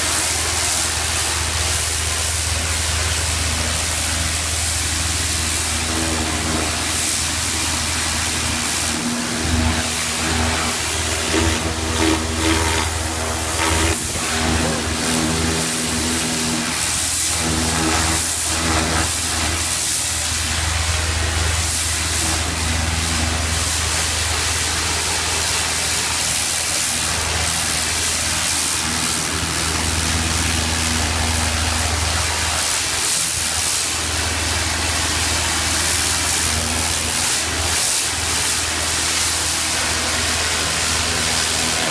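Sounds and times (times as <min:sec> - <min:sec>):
pressure washer humming: 0:00.0 - 0:41.9
water jet hissing on concrete: 0:00.0 - 0:41.9.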